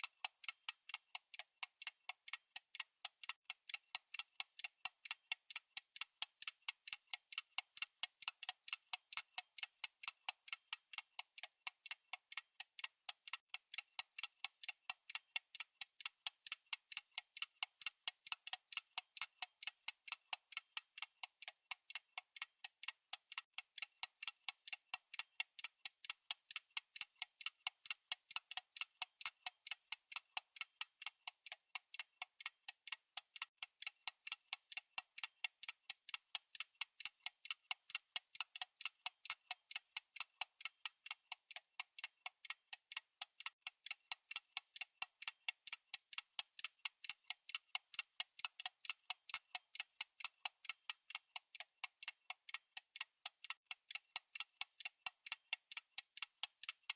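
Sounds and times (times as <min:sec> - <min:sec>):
clock ticking: 0:00.0 - 0:56.9.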